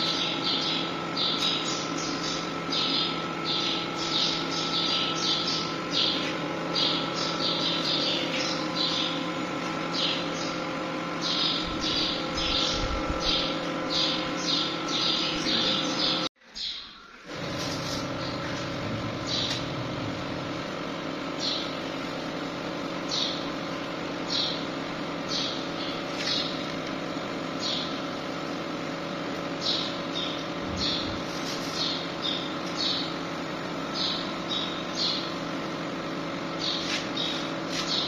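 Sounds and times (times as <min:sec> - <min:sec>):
small birds chirping: 0:00.0 - 0:19.7, 0:21.2 - 0:22.2, 0:22.9 - 0:26.8, 0:27.5 - 0:28.5, 0:29.4 - 0:35.6, 0:36.4 - 0:38.0
steady background hum: 0:00.0 - 0:38.0.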